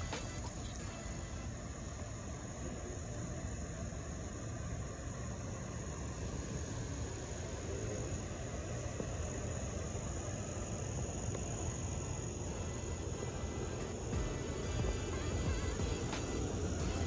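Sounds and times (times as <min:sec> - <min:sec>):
crickets chirping: 0:00.0 - 0:17.0
low outdoor rumble: 0:00.0 - 0:17.0.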